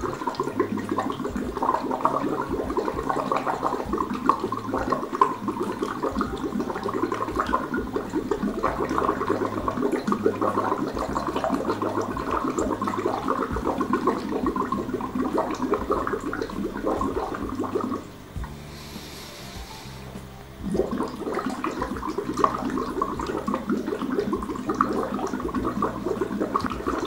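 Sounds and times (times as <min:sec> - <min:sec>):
blowing bubbles through a straw: 0:00.0 - 0:27.0.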